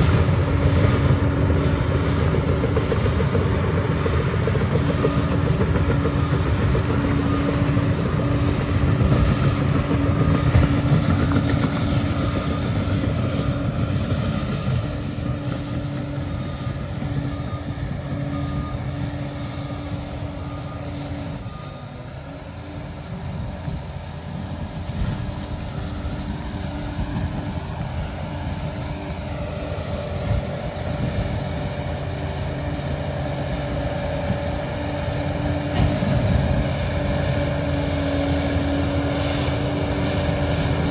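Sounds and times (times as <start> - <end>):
bulldozer diesel engine drone: 0.0 - 40.9
engine whine: 0.0 - 40.9.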